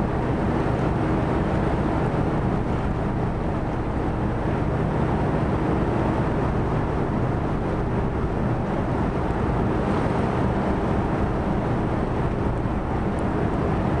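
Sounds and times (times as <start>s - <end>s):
rushing water: 0.0s - 14.0s
rushing wind: 0.0s - 14.0s
ship engines droning: 0.0s - 14.0s.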